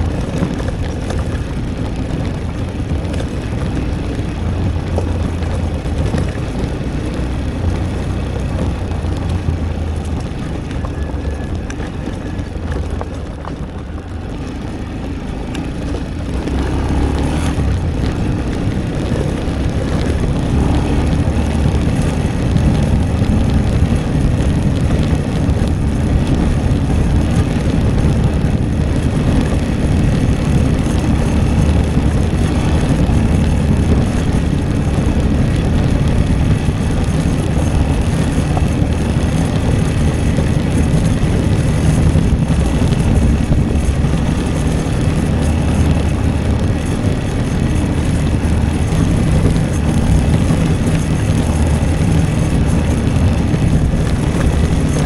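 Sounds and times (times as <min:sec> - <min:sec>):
motorcycle engine droning: 0:00.0 - 0:55.0
wind rushing over microphone: 0:00.0 - 0:55.0.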